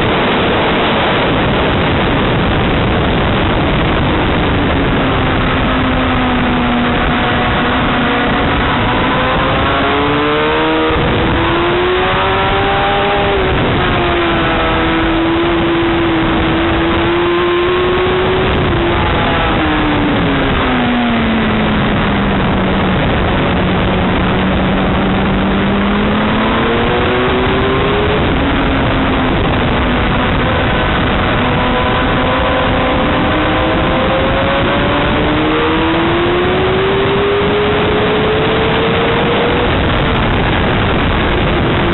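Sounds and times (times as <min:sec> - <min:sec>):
motorcycle engine changing speed: 0:00.0 - 0:41.9.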